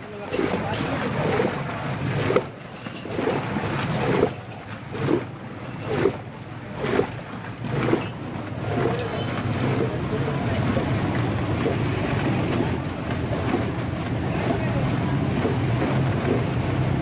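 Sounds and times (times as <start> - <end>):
liquid sloshing in metal pot: 0.0 - 17.0.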